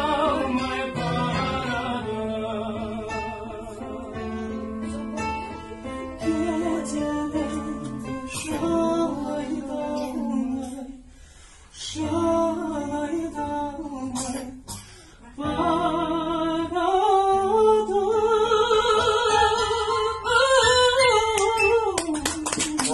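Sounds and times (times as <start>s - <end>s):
man singing in high voice: 0.0s - 5.0s, 6.1s - 11.1s, 11.7s - 22.9s.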